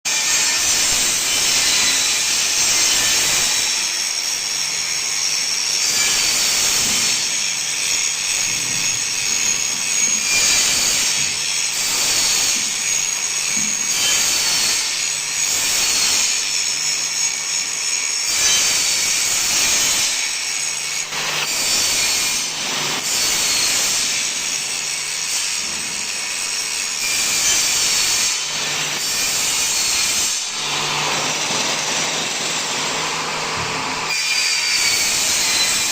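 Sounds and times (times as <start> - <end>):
grinding wheel on steel: 0.1 - 35.9.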